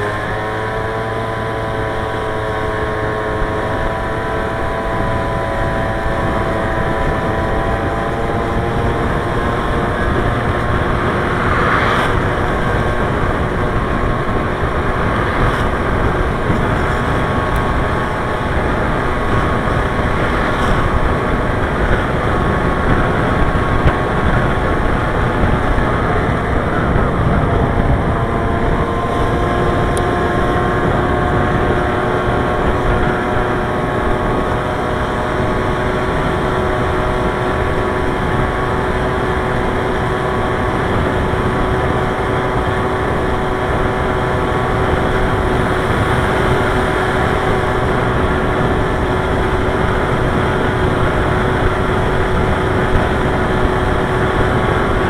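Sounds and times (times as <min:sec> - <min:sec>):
engine hum: 0:00.0 - 0:55.0
road and wind noise: 0:00.0 - 0:55.0.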